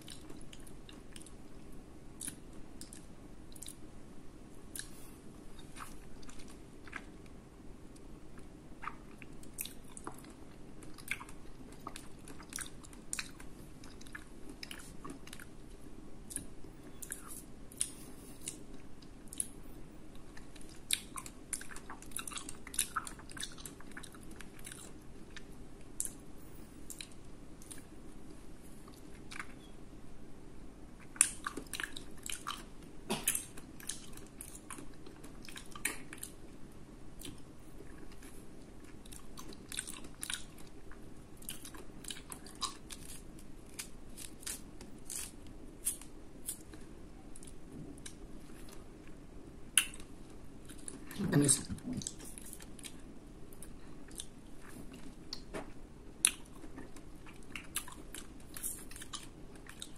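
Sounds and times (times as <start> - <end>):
chewing orange segments: 0.0 - 3.9, 4.7 - 7.4, 8.0 - 28.0, 31.0 - 36.5, 37.2 - 59.9.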